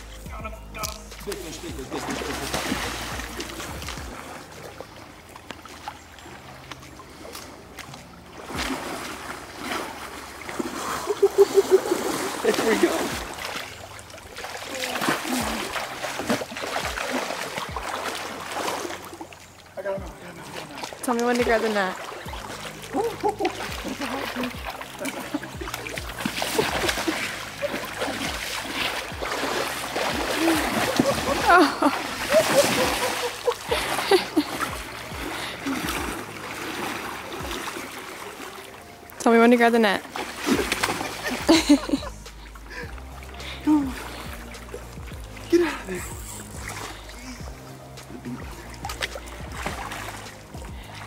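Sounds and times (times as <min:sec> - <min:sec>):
river water splashing: 0:00.0 - 0:51.0.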